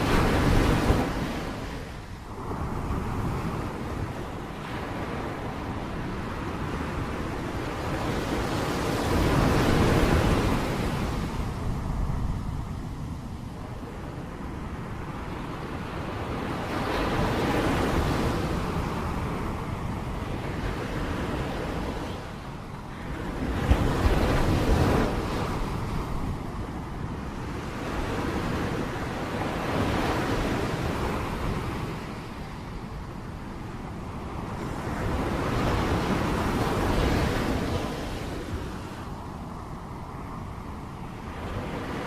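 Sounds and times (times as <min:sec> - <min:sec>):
gusting wind: 0:00.0 - 0:42.0.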